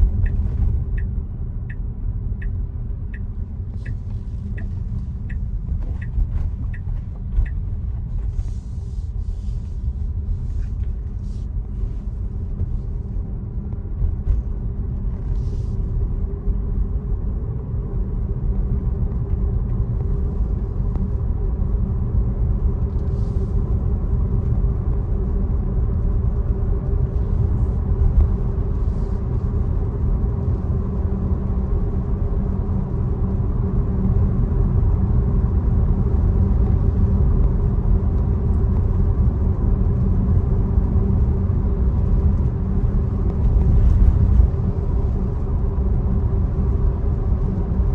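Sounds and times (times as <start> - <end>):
road and tyre rumble: 0.0 - 47.9.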